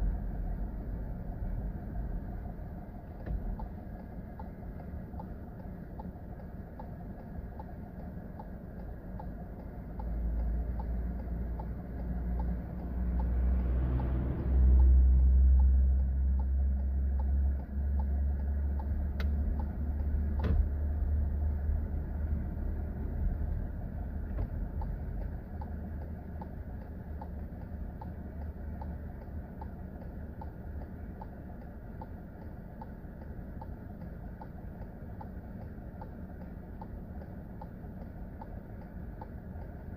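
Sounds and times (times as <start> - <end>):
car engine and road rumble: 0.0 - 39.9
light ticking: 0.0 - 39.9.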